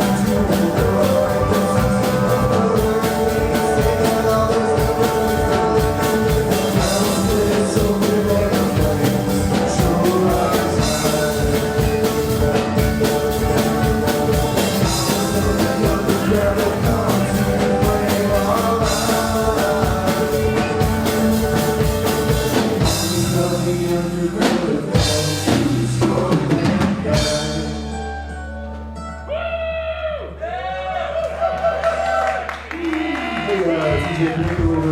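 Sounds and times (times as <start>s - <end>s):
person singing: 0.0s - 28.4s
drum kit: 0.0s - 29.4s, 33.4s - 34.9s
distorted guitars: 0.0s - 30.4s
bass guitar: 0.0s - 34.9s.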